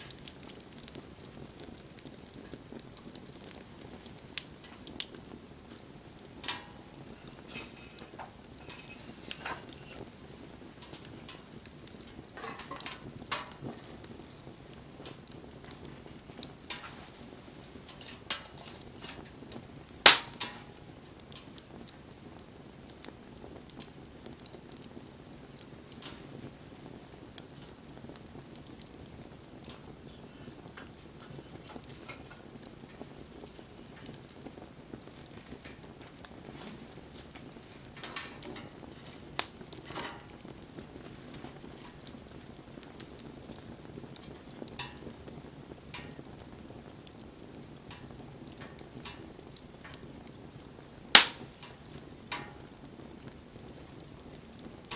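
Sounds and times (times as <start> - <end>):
campfire crackling and popping: 0.0 - 54.9
low rush of flame: 0.0 - 54.9.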